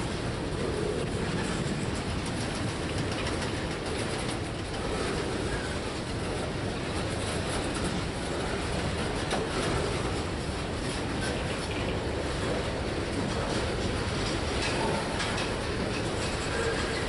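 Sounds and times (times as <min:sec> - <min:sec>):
steel wheels rumbling on rail: 0:00.0 - 0:17.0
wheels clicking over track: 0:00.0 - 0:17.0.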